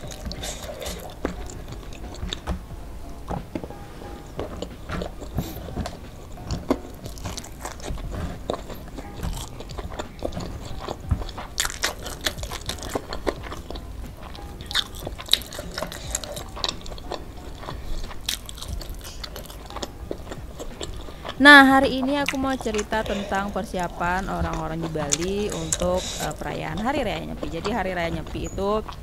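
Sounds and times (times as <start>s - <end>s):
chicken tearing: 0.0s - 28.2s
chewing and crunching: 0.0s - 29.0s.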